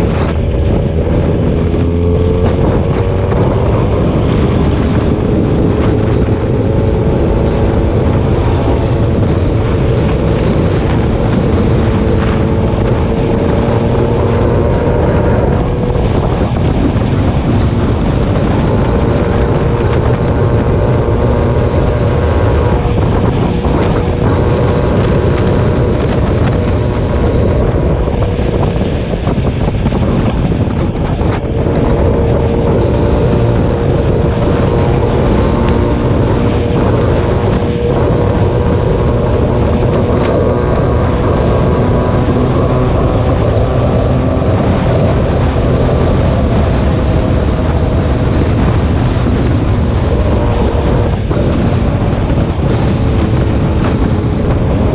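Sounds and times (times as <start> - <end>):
vehicle engine: 0.0 - 54.9
wind buffeting microphone: 0.0 - 54.9.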